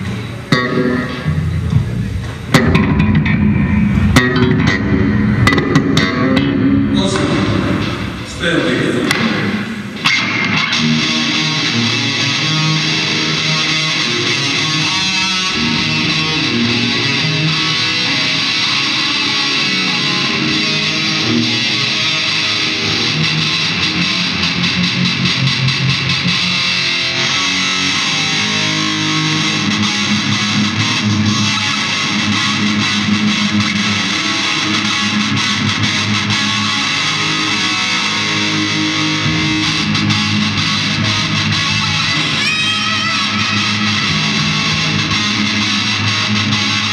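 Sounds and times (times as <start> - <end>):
distorted electric guitar riffs: 0.0 - 46.9.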